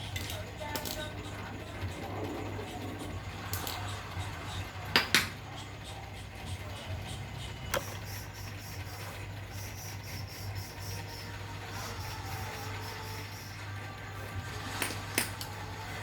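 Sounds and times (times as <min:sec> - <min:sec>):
small motor humming: 0:00.0 - 0:16.0.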